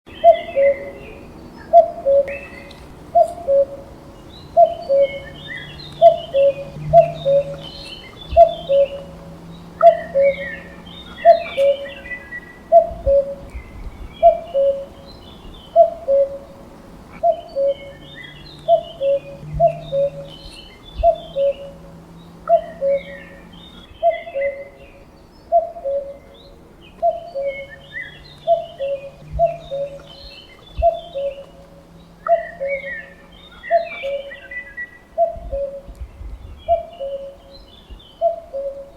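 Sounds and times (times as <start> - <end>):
cuckoo calling: 0.1 - 38.9
small birds chirping: 0.1 - 38.9.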